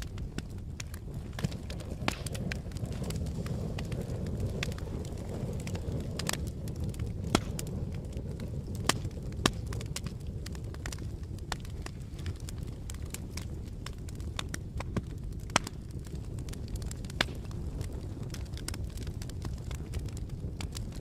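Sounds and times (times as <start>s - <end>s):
campfire flames rushing: 0.0s - 21.0s
wood crackling and popping: 0.0s - 21.0s.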